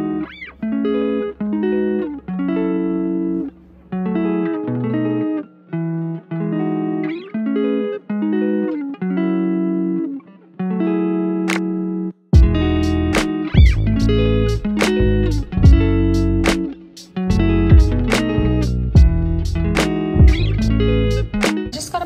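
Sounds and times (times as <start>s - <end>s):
plucked guitar chords: 0.0s - 22.0s.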